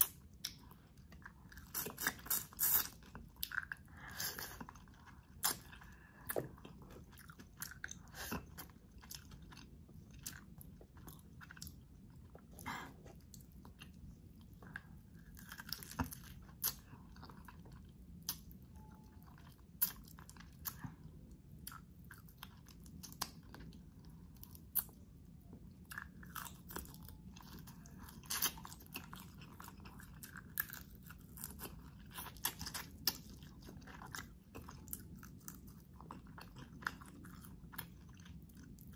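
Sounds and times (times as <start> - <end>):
chewing and biting shrimp: 0.0 - 38.9.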